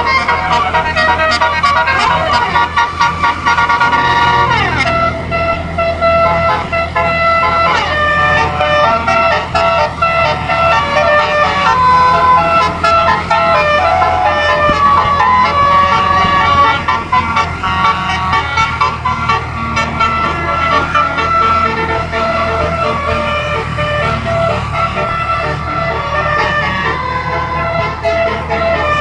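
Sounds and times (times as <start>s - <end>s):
air horn melody: 0.0s - 29.0s.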